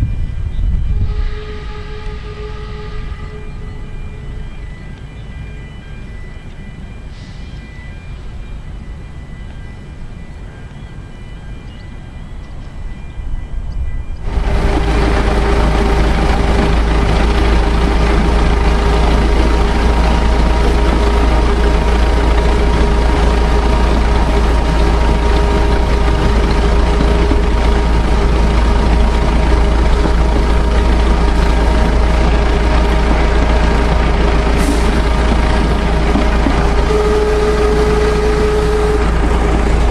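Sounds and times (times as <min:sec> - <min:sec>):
locomotive engine drone: 0:00.0 - 0:39.9
low train rumble: 0:00.0 - 0:39.9.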